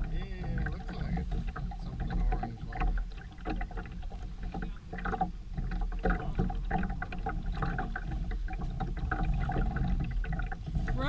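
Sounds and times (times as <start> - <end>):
water slapping against hull: 0.0 - 11.0.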